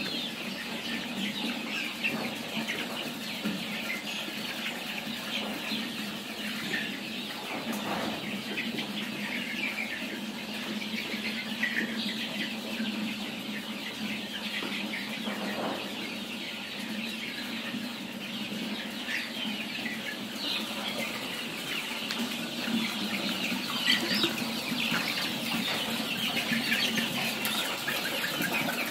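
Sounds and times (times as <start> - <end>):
chicks peeping and cheeping: 0.0 - 28.9.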